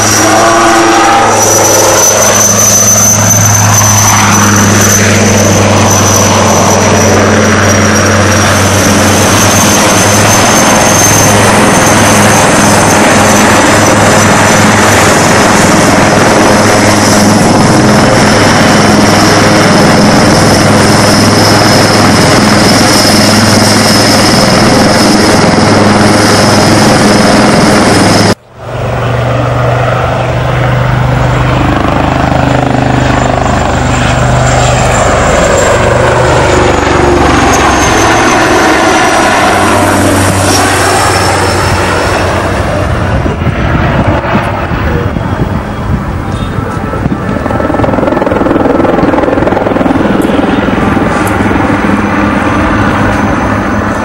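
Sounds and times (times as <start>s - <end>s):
helicopter rotor beat: 0.0s - 54.0s
high turbine whine: 0.0s - 54.0s.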